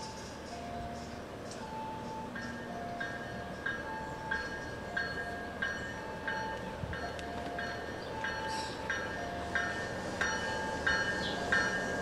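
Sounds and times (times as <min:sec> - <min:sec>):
train bell ringing: 0:00.0 - 0:12.0
train rumble: 0:00.0 - 0:12.0.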